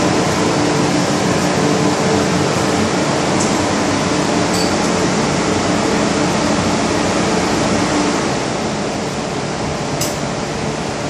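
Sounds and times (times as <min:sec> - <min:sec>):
air-conditioning rushing: 0:00.0 - 0:11.0.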